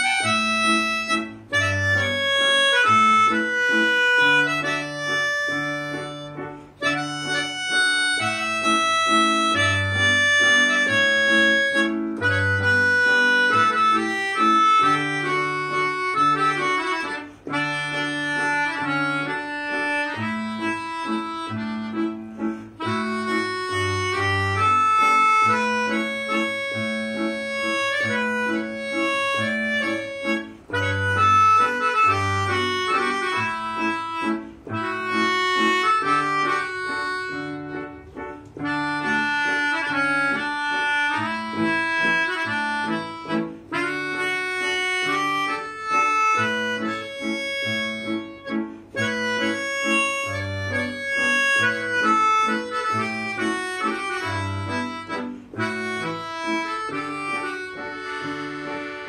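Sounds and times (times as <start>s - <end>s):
electronic keyboard piano chords: 0.0s - 59.0s
melodica playing a melody: 0.0s - 59.0s.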